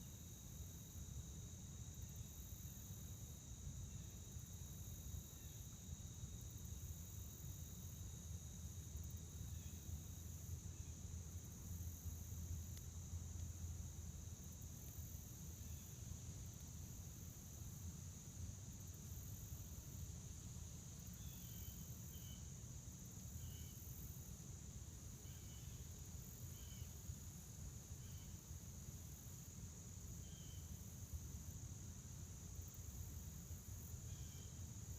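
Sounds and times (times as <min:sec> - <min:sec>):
crickets and insects trilling: 0:00.0 - 0:34.9.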